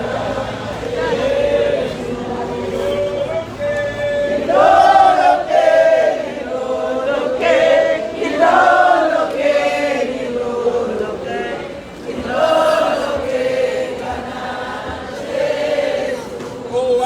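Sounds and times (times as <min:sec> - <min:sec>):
congregation singing in chorus: 0:00.0 - 0:17.0.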